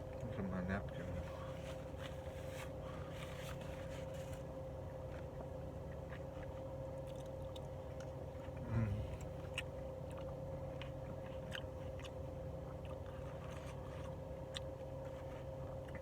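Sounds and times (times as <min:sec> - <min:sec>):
steady low hum: 0:00.0 - 0:16.0
chewing: 0:00.1 - 0:16.0.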